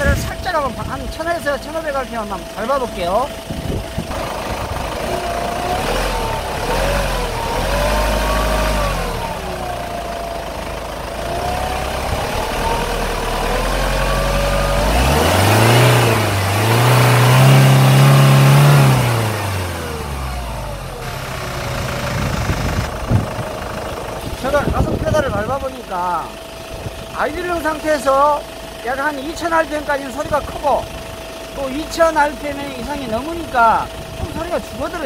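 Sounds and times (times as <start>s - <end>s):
engine idling and revving: 0.0s - 35.0s.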